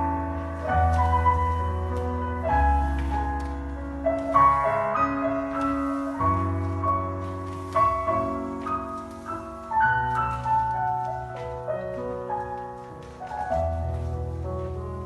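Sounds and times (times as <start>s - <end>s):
classical piano music: 0.0s - 15.0s.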